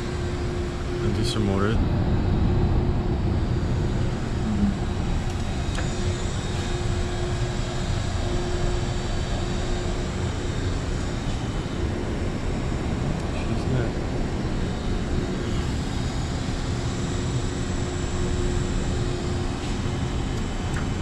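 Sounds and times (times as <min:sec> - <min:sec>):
faint steady hum: 0:00.0 - 0:21.0
steam humidifier roaring: 0:00.0 - 0:21.0.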